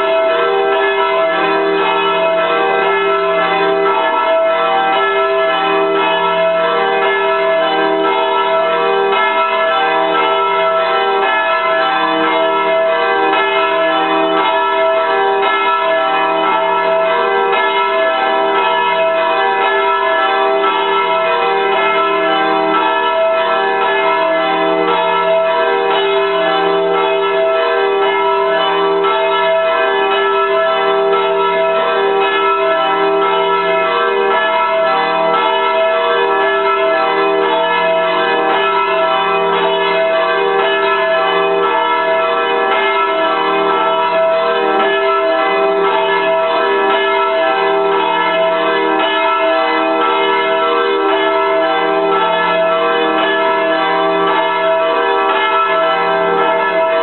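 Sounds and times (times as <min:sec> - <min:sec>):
church bells pealing: 0:00.0 - 0:57.0.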